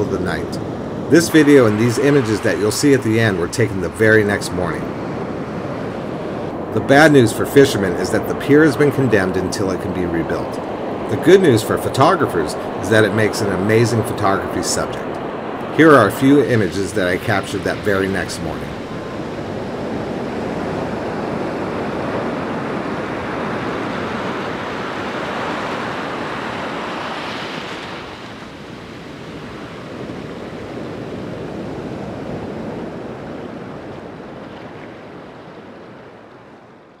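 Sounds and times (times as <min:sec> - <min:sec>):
ocean waves washing in: 0:00.0 - 0:37.0.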